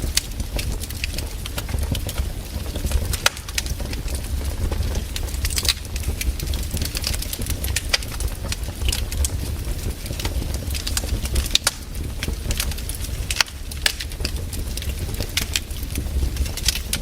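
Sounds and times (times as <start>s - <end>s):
campfire crackling and popping: 0.0s - 17.0s
fire low rumble: 0.0s - 17.0s.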